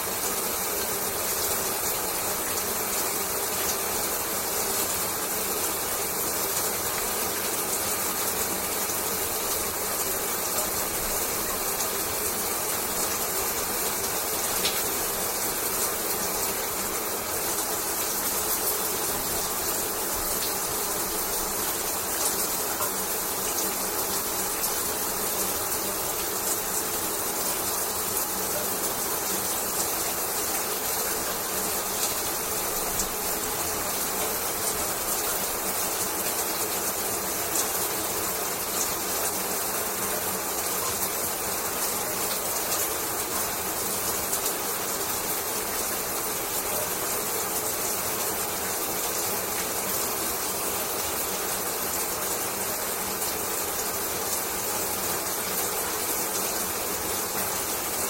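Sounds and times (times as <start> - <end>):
shower water running: 0.0 - 58.0.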